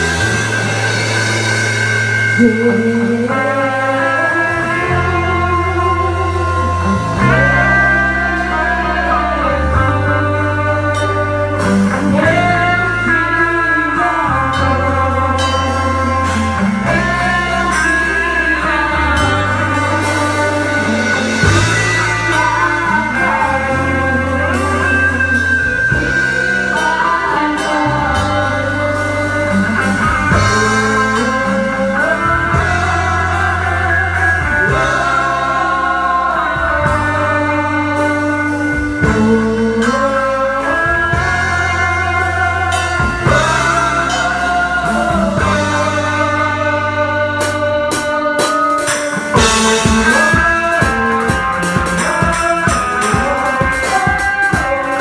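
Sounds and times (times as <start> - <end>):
bass guitar: 0.0 - 55.0
drum kit: 0.0 - 55.0
guitar: 0.0 - 55.0
person singing: 0.0 - 55.0.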